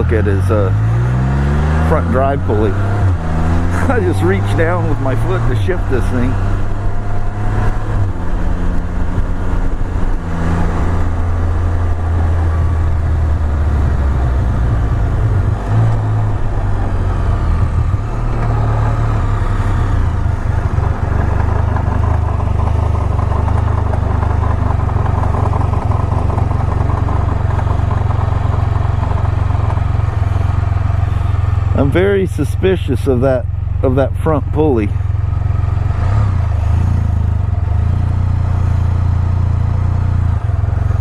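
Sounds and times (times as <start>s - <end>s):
three-wheeled motorcycle engine running: 0.0s - 41.0s.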